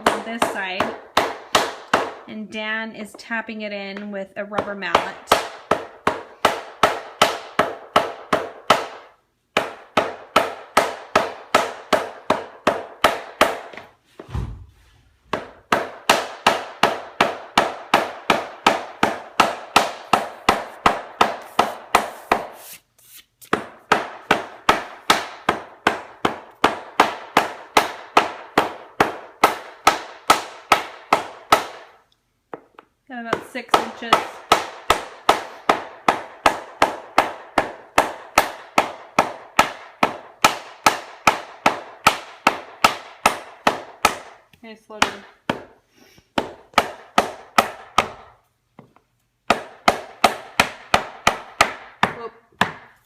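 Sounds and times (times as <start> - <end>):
rubber mallet tapping wood plank: 0.0 - 2.3, 3.9 - 14.7, 15.3 - 22.6, 23.4 - 53.0.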